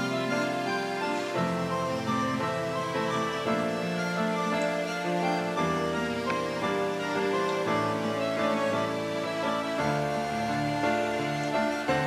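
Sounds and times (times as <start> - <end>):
soft instrumental background music: 0.0 - 12.0.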